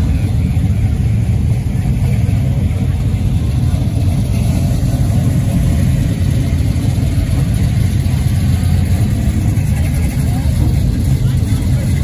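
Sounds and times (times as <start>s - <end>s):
cars driving slowly past: 0.0s - 12.0s.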